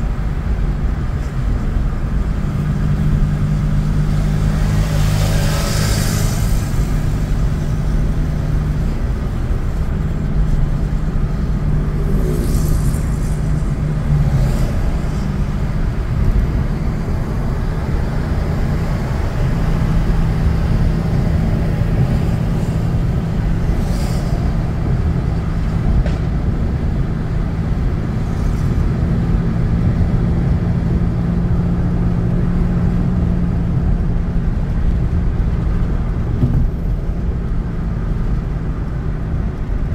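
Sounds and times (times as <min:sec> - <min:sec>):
road rumble: 0:00.0 - 0:39.9
vehicle engine drone: 0:00.0 - 0:39.9.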